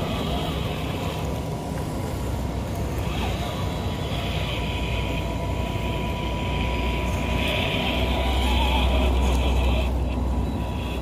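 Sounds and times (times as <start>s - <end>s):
radio-controlled car motor whine: 0.0s - 11.0s.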